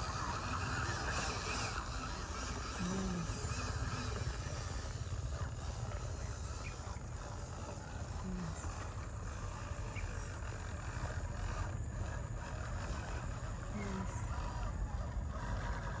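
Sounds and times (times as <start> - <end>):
constant hiss: 0.0 - 16.0
vehicle rumbling: 0.0 - 16.0.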